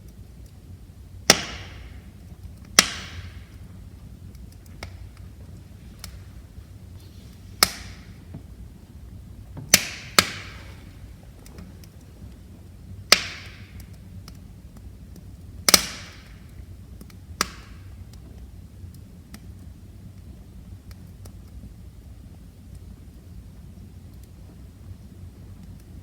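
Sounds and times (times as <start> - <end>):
fire popping with hiss: 0.0 - 26.0
low rumble of flames: 0.0 - 26.0
wood fire crackling: 0.0 - 26.0.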